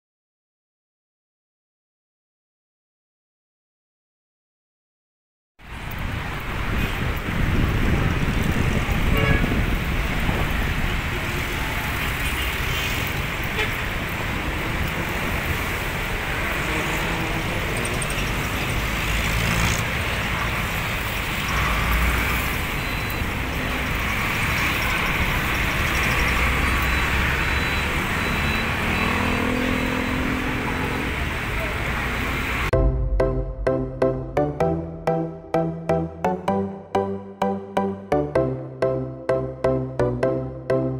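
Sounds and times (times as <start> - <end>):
vehicles passing: 5.6 - 40.9.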